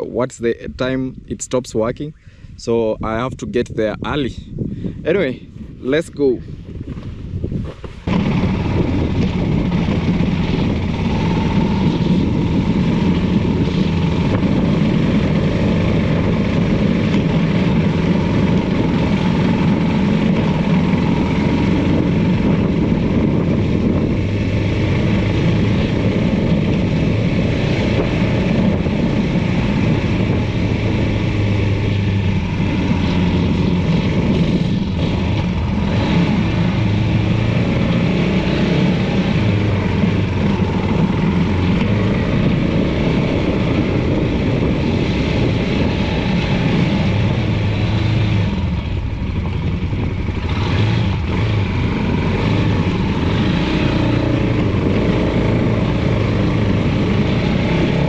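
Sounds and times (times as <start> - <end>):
motorcycle engine running: 6.6 - 58.0.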